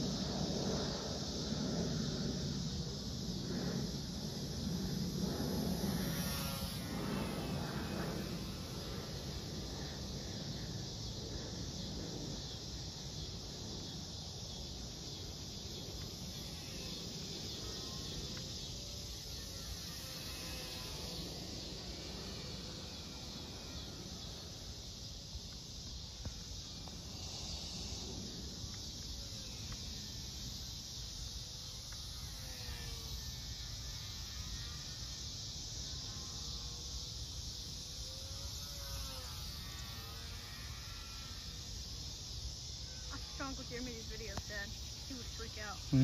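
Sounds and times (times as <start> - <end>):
model plane motor whine: 0.0 - 12.6, 14.6 - 27.1, 28.0 - 46.0
insects chirring: 0.0 - 46.0.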